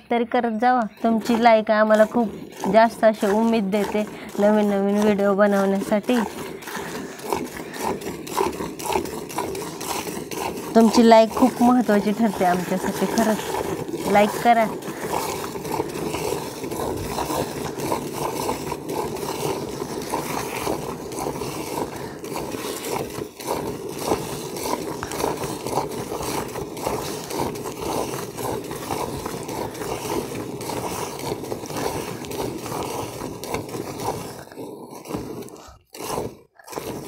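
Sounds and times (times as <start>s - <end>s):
milk squirting into a pail: 0.7s - 37.0s.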